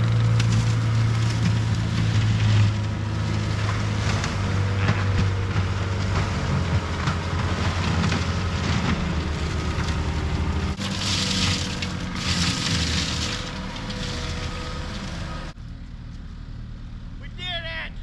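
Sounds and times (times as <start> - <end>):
mulcher crackling and crushing: 0.0 - 16.2
diesel engine under load: 0.0 - 18.0.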